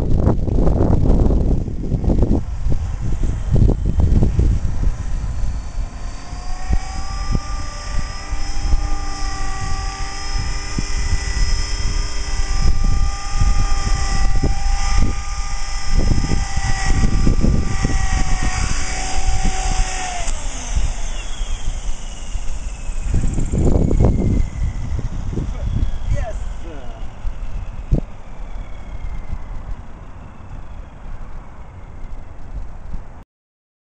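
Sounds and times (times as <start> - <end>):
rc helicopter rotor whine: 0.0 - 33.2
wind buffeting microphone: 0.0 - 33.2.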